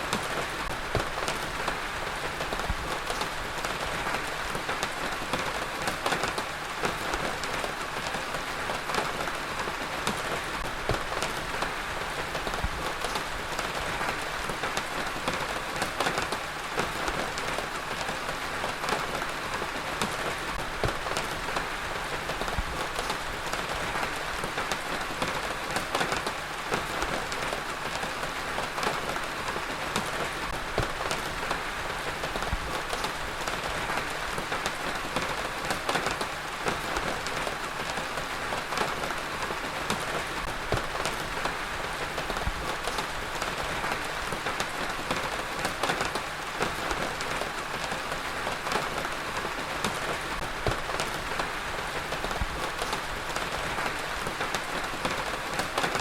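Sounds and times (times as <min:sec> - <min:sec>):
heavy rain on a hard surface: 0:00.0 - 0:56.0.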